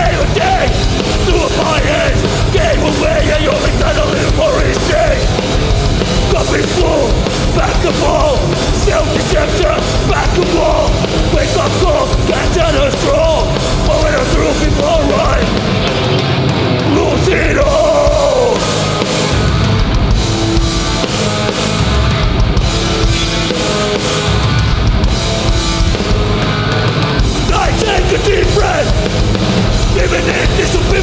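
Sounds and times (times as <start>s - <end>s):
punk band playing live: 0.0s - 31.0s.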